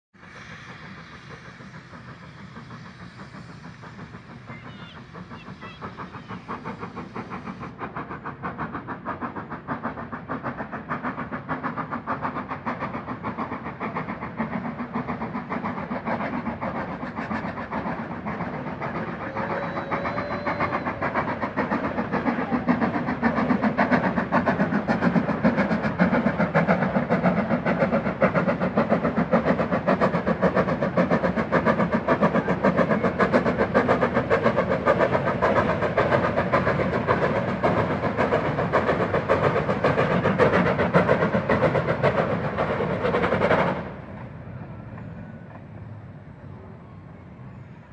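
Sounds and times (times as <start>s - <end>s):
steam locomotive exhaust beating: 0.2s - 47.9s.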